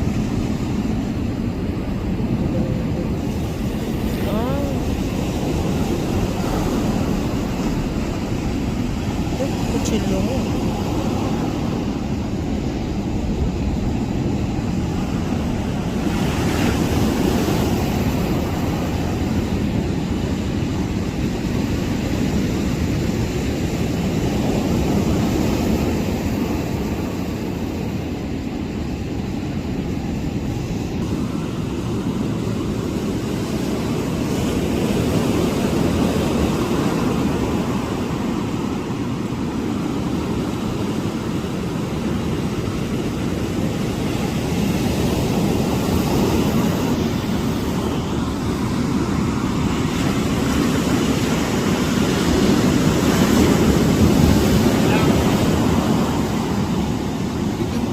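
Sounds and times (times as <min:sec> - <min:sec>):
ocean surf: 0:00.0 - 0:57.9
wind rumbling on microphone: 0:00.0 - 0:57.9.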